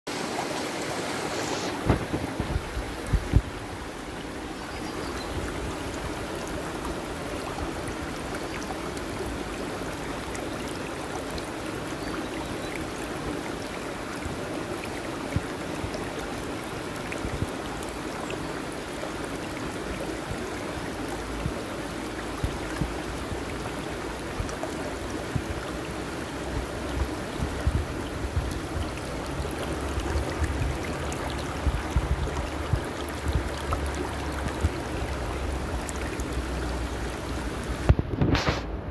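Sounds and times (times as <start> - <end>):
stream splashing over rocks: 0.1 - 38.9.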